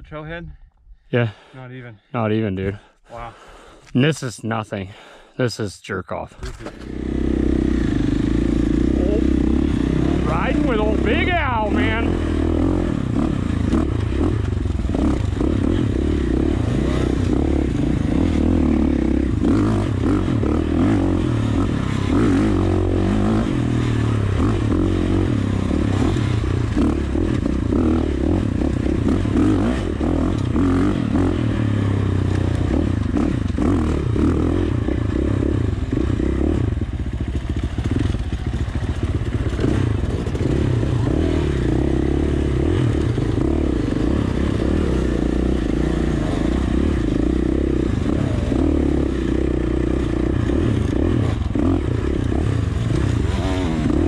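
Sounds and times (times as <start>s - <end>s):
dirt bike engine revving: 6.6s - 54.0s.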